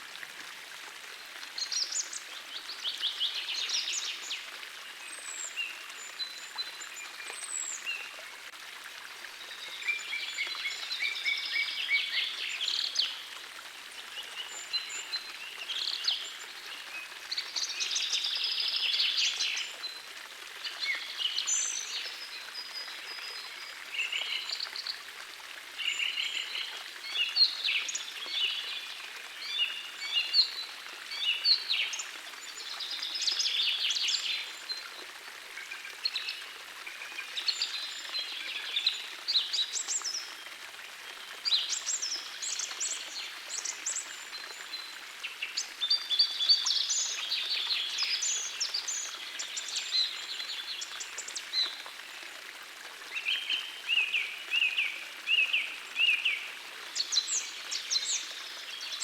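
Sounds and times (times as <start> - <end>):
forest stream rushing: 0.0 - 59.0.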